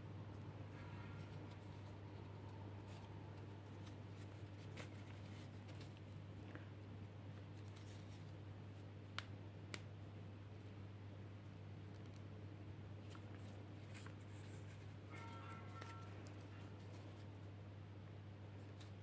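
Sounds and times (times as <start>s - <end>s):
soft rustling of crocheted toy: 0.1s - 9.0s, 10.5s - 17.7s.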